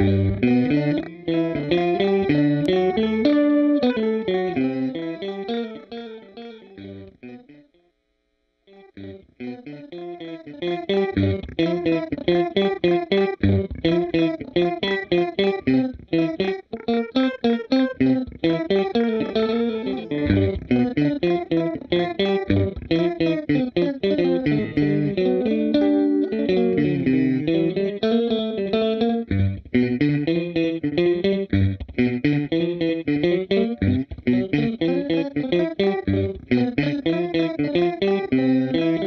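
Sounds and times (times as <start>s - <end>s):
electric guitar with pitch shifting: 0.0s - 7.7s, 8.7s - 39.0s.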